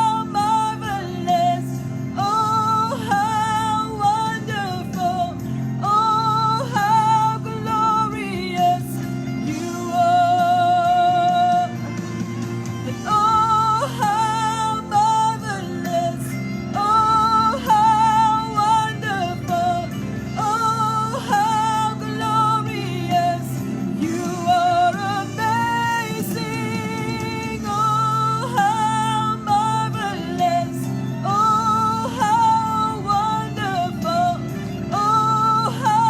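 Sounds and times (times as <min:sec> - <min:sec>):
woman singing: 0:00.0 - 0:12.0, 0:12.8 - 0:36.0
band accompaniment: 0:05.0 - 0:36.0.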